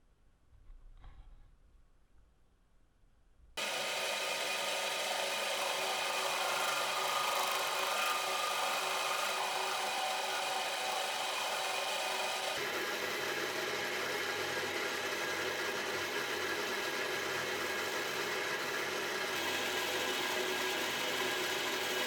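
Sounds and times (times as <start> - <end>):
electric power tool grinding: 3.6 - 22.0.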